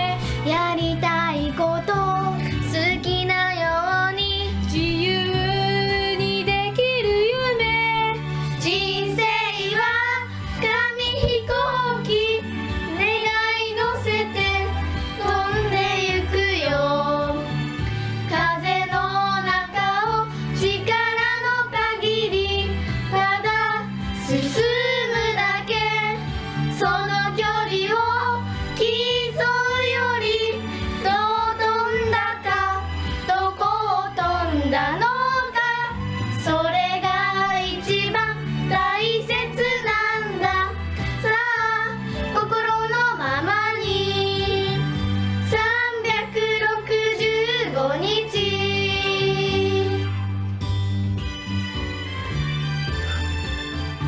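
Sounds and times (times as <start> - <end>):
girls singing pop song: 0.0 - 50.3
instrumental backing track: 0.0 - 54.0.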